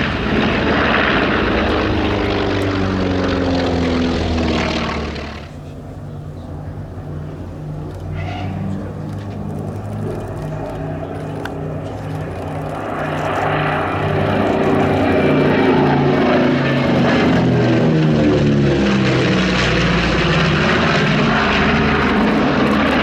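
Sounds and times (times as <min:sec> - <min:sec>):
propeller aircraft flying past: 0:00.0 - 0:23.0.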